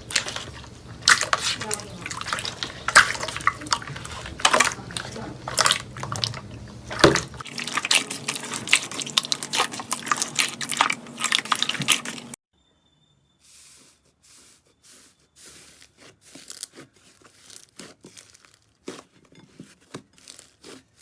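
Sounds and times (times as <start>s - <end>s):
slime squishing with wet pops: 0.0s - 12.4s, 15.8s - 21.0s.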